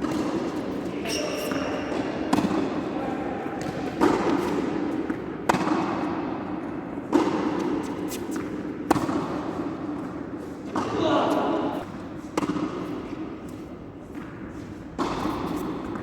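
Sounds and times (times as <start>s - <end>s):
tennis ball struck by rackets: 0.0s - 2.9s, 3.6s - 13.4s, 15.0s - 16.0s.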